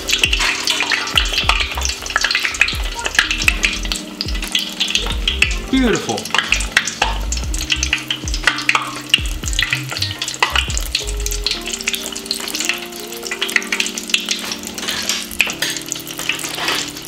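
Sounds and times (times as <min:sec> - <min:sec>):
deep-frying sizzle with crackles: 0:00.0 - 0:17.0.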